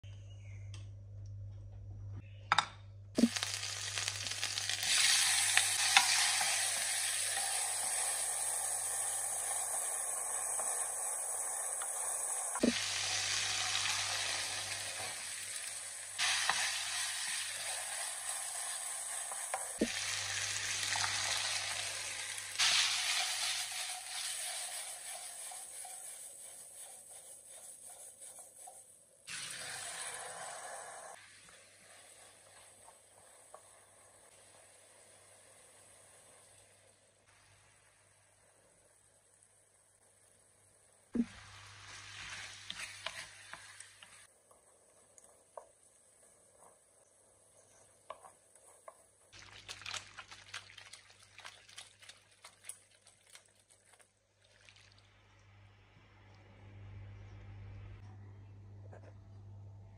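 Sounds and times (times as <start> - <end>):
food sizzling in a pan: 3.2 - 53.8.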